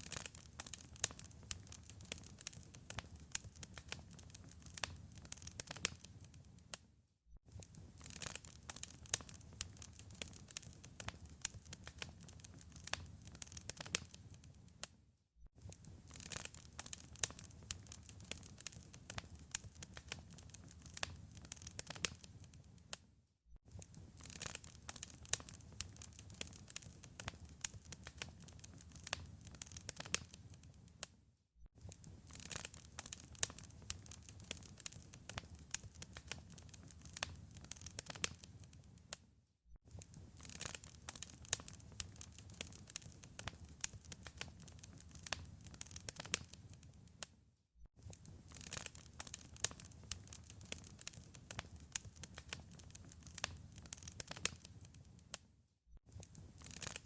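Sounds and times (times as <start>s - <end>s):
wood fire crackling: 0.0s - 6.6s, 7.5s - 14.9s, 15.6s - 23.0s, 23.7s - 31.1s, 31.8s - 39.2s, 39.9s - 47.3s, 48.0s - 55.4s, 56.1s - 57.0s.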